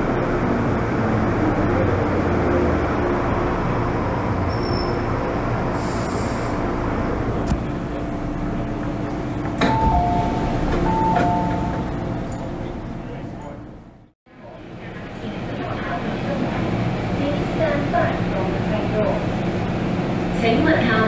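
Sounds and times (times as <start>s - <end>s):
train rumble with motor hum: 0.0s - 21.0s.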